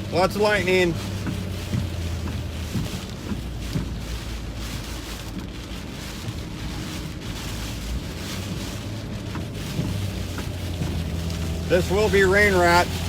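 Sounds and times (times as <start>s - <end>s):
car engine and road noise: 0.0s - 13.0s
heavy rain hitting a car: 0.0s - 13.0s
wind: 0.0s - 13.0s.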